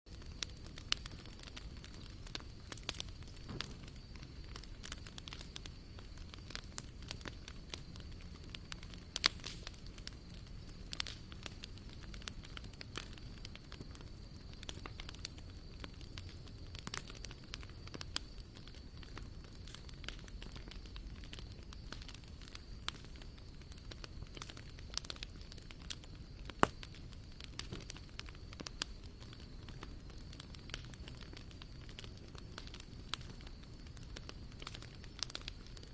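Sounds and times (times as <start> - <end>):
wood crackling and popping: 0.1 - 35.9.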